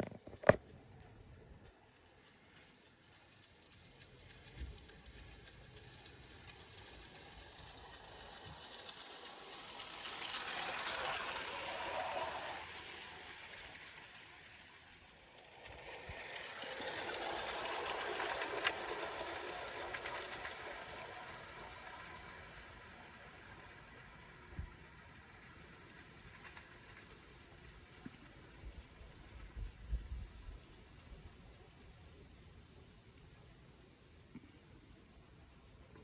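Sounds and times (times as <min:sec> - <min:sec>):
train wheels on rails: 0:00.0 - 0:32.9
model locomotive motor whirring: 0:00.0 - 0:35.9.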